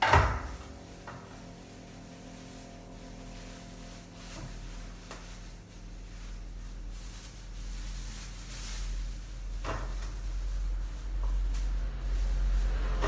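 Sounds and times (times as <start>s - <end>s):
low steady hum: 0.0s - 13.0s
plastic bag rustling: 0.2s - 13.0s.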